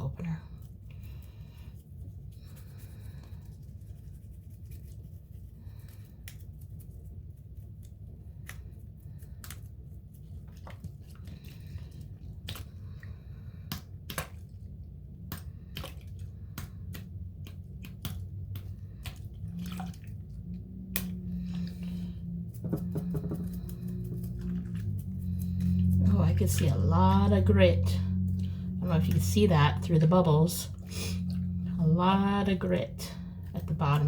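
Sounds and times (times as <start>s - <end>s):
wet squishing in soapy water: 0.0s - 34.0s.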